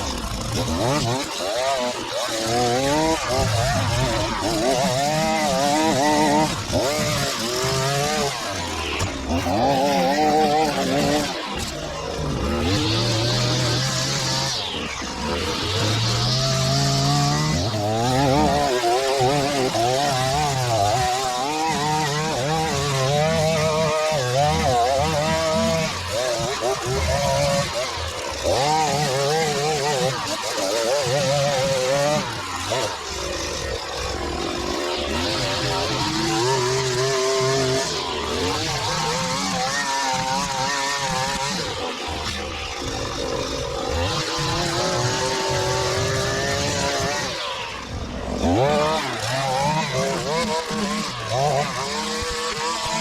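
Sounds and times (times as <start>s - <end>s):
line trimmer engine revving: 0.0s - 53.0s.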